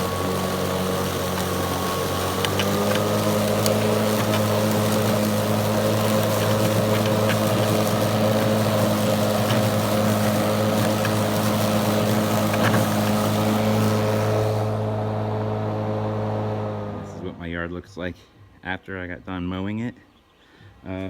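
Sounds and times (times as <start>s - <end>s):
electric lawnmower cutting grass: 0.0s - 17.6s.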